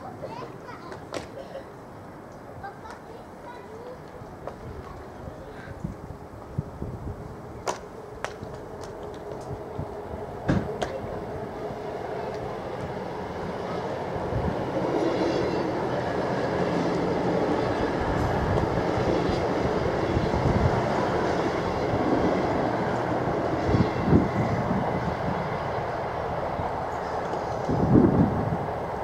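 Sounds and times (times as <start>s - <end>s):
passenger train rumbling past: 0.0s - 29.0s.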